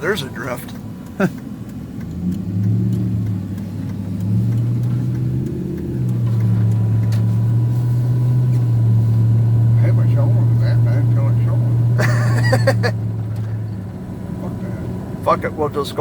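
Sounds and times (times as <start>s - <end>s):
truck engine revving under load: 0.0s - 16.0s.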